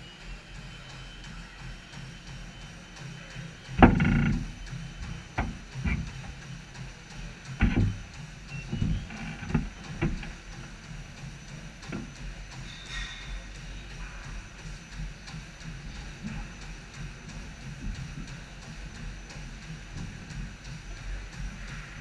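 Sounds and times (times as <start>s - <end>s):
low steady hum: 0.0s - 22.0s
treadmill knocks and thuds: 0.0s - 22.0s.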